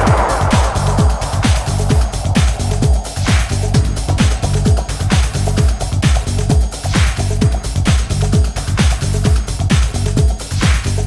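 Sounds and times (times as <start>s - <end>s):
steady kick drum: 0.0s - 10.4s.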